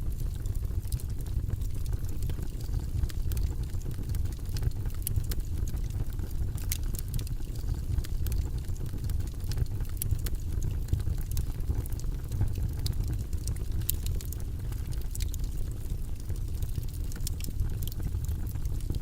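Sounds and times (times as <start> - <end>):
faint crackles and clicks: 0.0 - 19.0.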